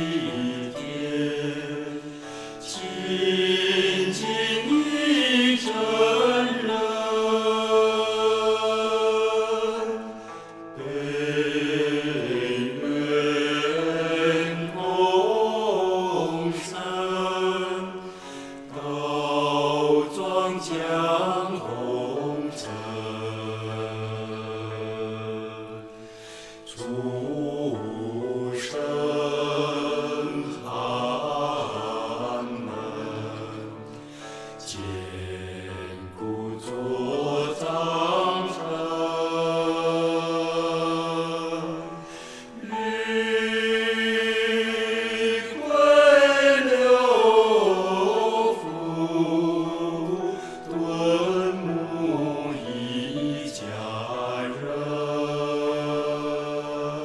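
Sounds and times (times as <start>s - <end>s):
person singing long held notes: 0.0s - 57.0s.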